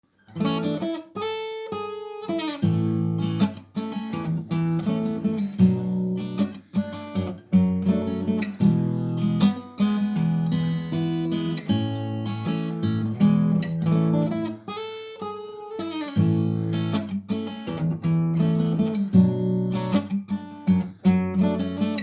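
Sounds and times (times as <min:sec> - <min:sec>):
acoustic guitar fingerstyle playing: 0:00.2 - 0:22.0.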